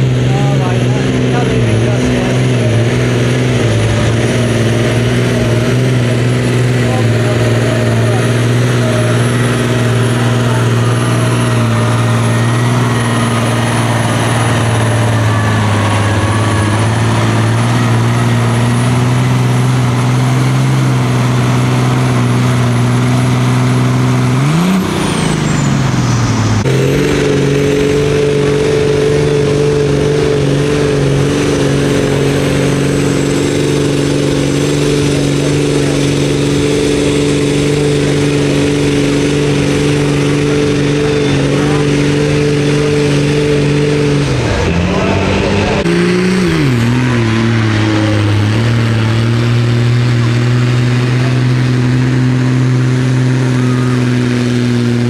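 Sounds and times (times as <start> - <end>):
tractor diesel engine at high revs: 0.0 - 55.0
tractor engine running steadily: 0.0 - 55.0.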